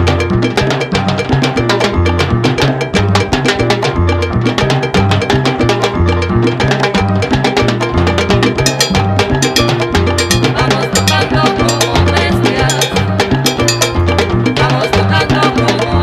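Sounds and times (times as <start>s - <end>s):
driving percussion: 0.0s - 16.0s
repeating bass line: 0.0s - 16.0s
salsa band playing: 0.0s - 16.0s.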